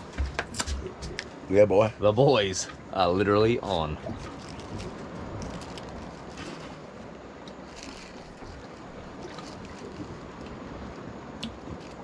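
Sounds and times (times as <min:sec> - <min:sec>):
water around a boat: 0:00.0 - 0:12.0
wind: 0:00.0 - 0:12.0.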